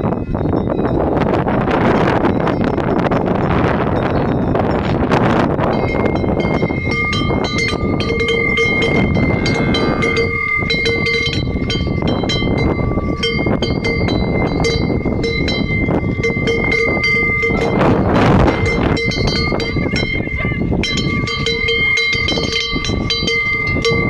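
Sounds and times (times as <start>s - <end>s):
cowbells clanking: 0.0s - 24.0s
wind rumbling on microphone: 0.0s - 24.0s.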